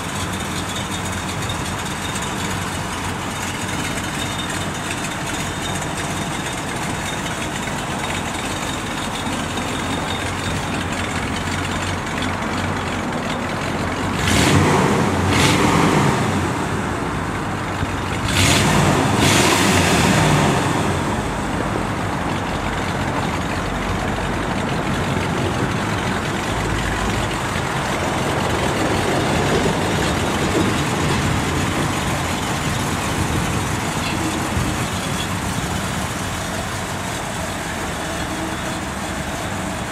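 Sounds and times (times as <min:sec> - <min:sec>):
pickup engine idling and revving: 0:00.0 - 0:39.9.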